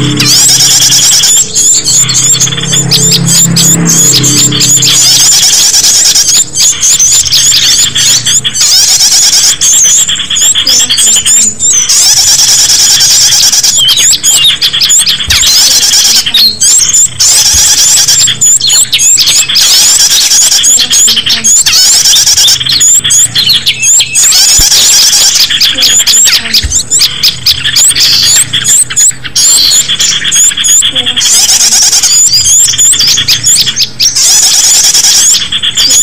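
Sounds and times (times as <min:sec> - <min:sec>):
songbirds chirping and twittering: 0:00.0 - 0:36.0.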